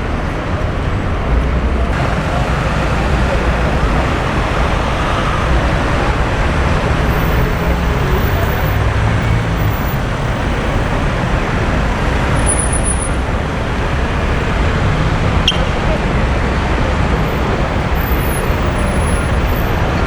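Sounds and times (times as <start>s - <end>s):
low engine rumble: 0.0s - 20.0s
passing traffic: 0.0s - 20.0s.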